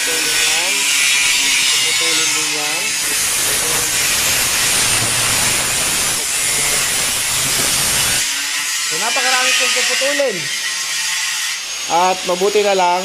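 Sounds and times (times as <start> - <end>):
power saw cutting metal: 0.0 - 13.0.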